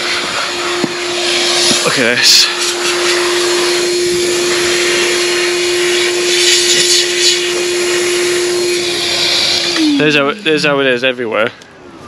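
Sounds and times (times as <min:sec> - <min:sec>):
blower-vacuum whine and air rush: 0:00.0 - 0:12.0.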